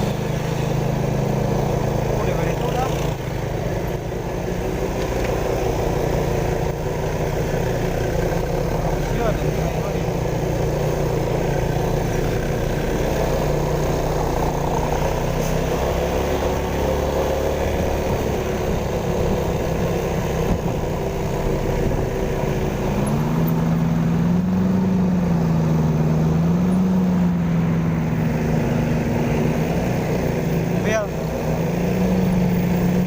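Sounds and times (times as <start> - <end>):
engine revving: 0.0 - 33.0
traffic engines rumbling: 0.0 - 33.0.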